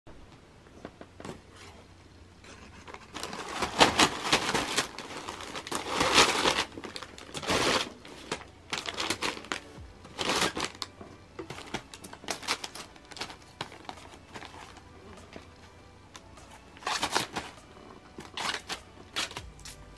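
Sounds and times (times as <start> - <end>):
paper crinkling and rustling: 2.4 - 19.5.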